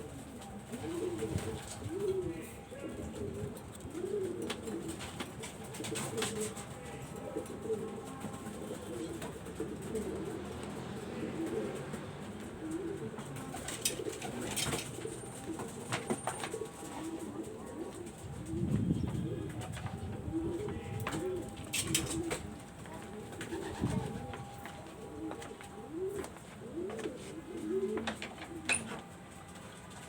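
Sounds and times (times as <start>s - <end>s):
pigeons cooing: 0.0s - 29.6s.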